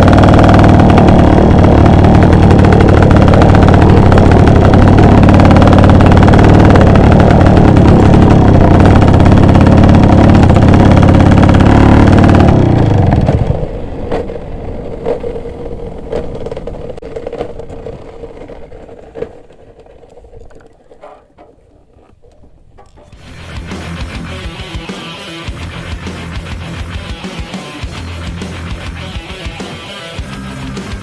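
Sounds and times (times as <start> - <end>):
two-stroke motorcycle engine: 0.0 - 20.0, 22.9 - 31.0.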